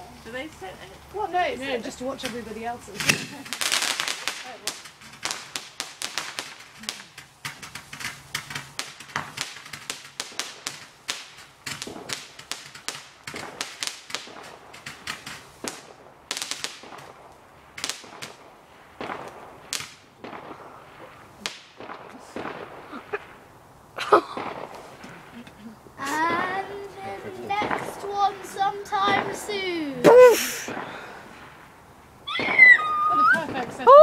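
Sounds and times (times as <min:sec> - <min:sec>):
firework bangs and crackles: 0:00.0 - 0:34.0.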